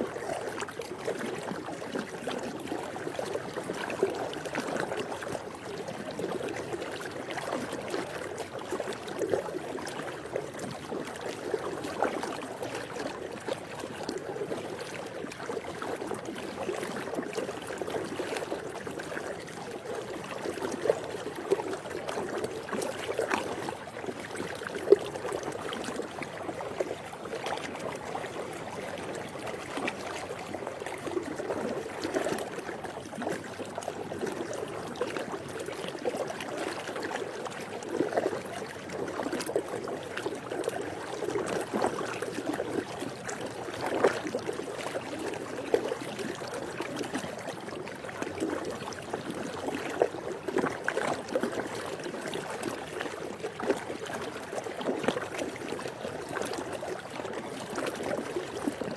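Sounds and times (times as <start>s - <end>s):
pool water lapping: 0.0s - 58.9s
small water splashes: 0.0s - 58.9s.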